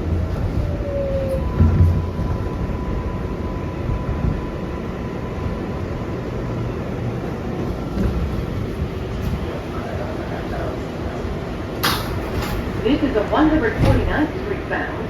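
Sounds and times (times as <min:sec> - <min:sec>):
subway car equipment rumble and hum: 0:00.0 - 0:15.0.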